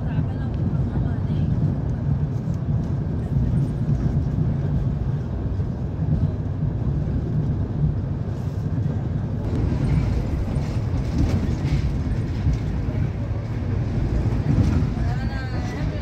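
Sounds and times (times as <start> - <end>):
train rumbling inside carriage: 0.0 - 16.0.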